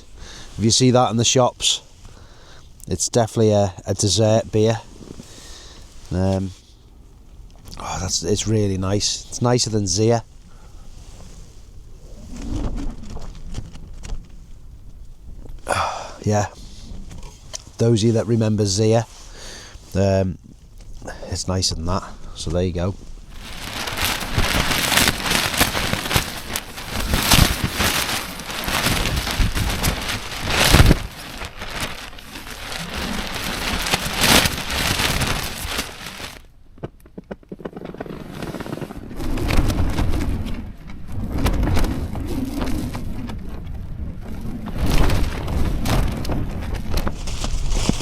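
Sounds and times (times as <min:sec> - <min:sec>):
heavy rain pattering on tent fabric: 0:00.0 - 0:06.6, 0:07.5 - 0:14.6, 0:15.4 - 0:48.0
gusting wind: 0:00.0 - 0:48.0.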